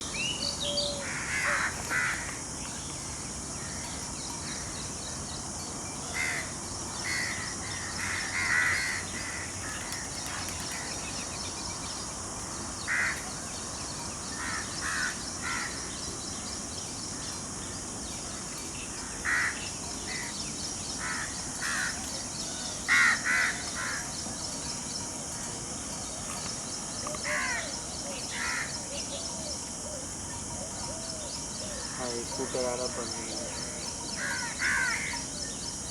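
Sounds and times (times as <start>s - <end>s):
steady high hiss: 0.0s - 35.9s.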